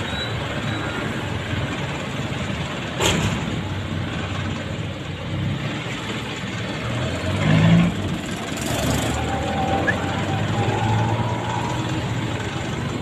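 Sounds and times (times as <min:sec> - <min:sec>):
motorcycle and car engines passing: 0:00.0 - 0:13.0.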